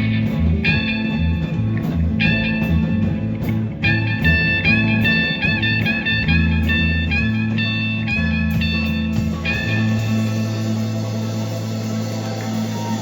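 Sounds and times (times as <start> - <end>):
bass line: 0.0 - 13.0
lead guitar bending notes: 0.0 - 13.0.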